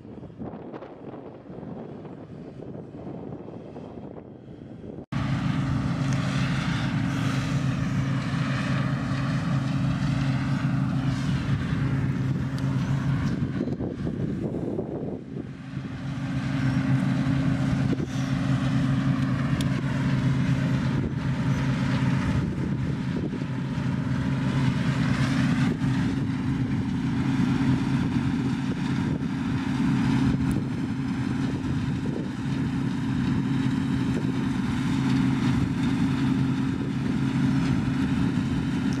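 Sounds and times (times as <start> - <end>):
combine harvester engine running: 0.0 - 39.0.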